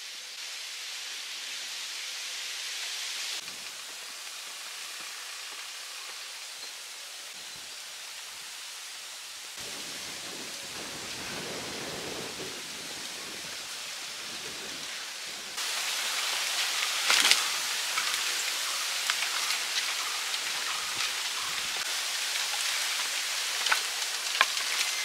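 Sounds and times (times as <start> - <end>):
hiss of water: 0.0 - 25.0.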